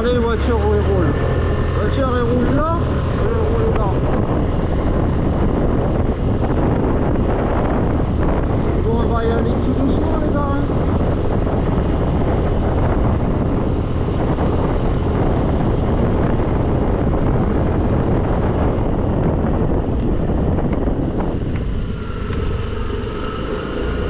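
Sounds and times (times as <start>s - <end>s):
road noise: 0.0s - 24.0s
scooter engine: 0.0s - 24.0s
thin engine whine: 0.0s - 24.0s
wind rushing over microphone: 0.0s - 24.0s.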